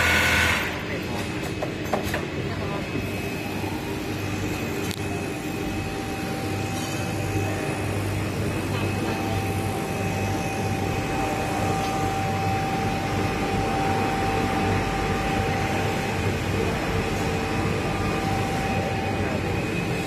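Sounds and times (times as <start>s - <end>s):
high steady whine: 0.0s - 1.2s, 2.5s - 20.0s.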